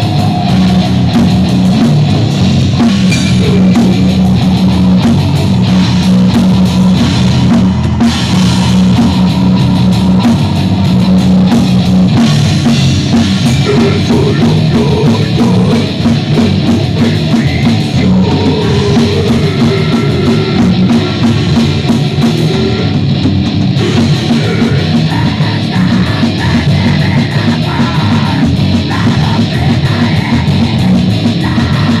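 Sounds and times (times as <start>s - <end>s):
distorted guitars and bass: 0.0s - 32.0s
fast pounding drums: 0.0s - 32.0s.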